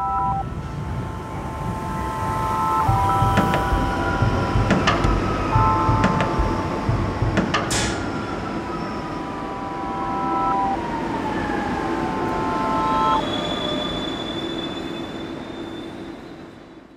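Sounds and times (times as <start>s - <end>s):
high steady tone: 0.0s - 14.5s
train rumble: 0.0s - 16.9s
train wheels squealing: 0.0s - 16.9s
train whine: 0.0s - 16.9s.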